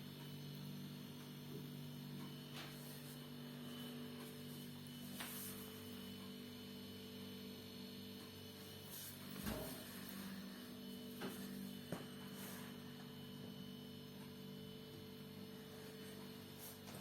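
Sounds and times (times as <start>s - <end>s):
refrigerator humming: 0.0s - 17.0s.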